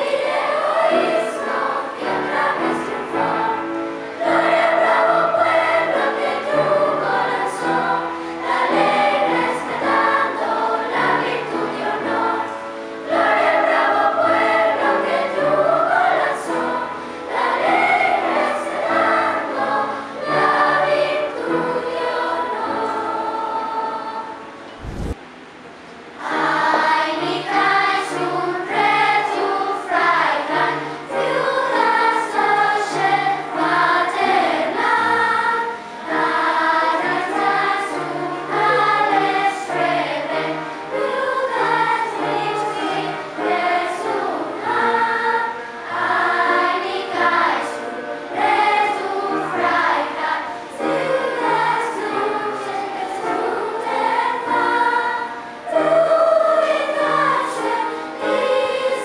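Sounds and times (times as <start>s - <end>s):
children's choir singing: 0.0s - 25.2s, 26.0s - 59.0s.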